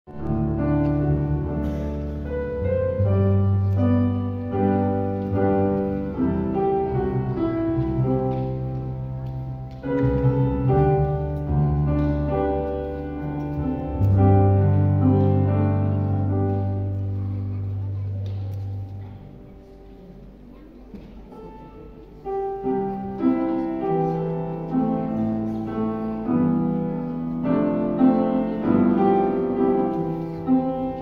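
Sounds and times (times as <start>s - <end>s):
piano playing a slow hymn: 0.1s - 31.0s.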